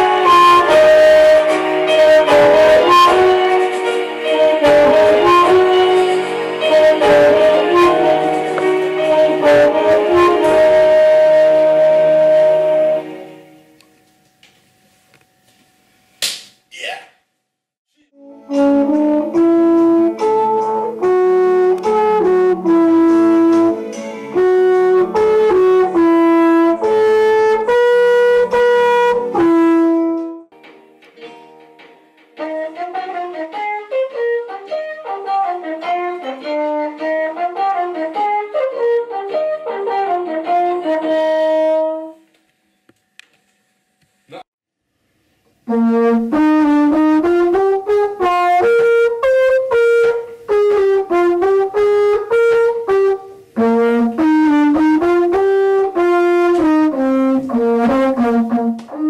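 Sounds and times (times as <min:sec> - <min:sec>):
flugelhorn melody: 0:00.0 - 0:13.5, 0:18.2 - 0:30.5, 0:32.4 - 0:42.3, 0:45.6 - 0:59.0.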